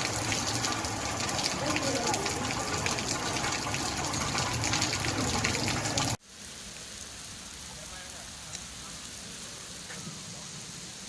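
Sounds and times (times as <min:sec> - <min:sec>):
heavy rain pouring: 0:00.0 - 0:11.0
steady soft rain: 0:00.0 - 0:11.0.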